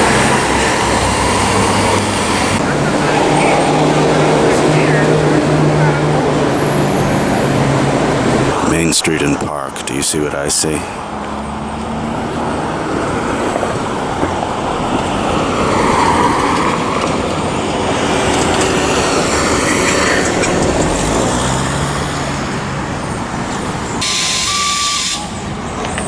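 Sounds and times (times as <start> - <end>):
cars and trucks passing: 0.0 - 26.0.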